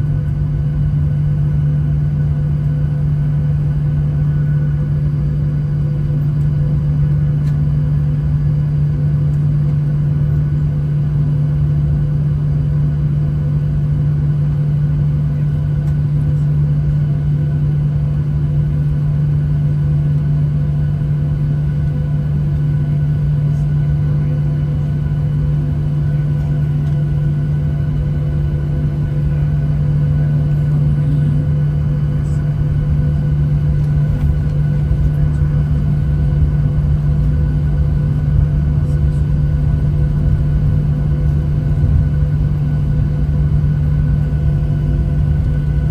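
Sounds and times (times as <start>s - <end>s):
jet engines droning: 0.0s - 45.9s.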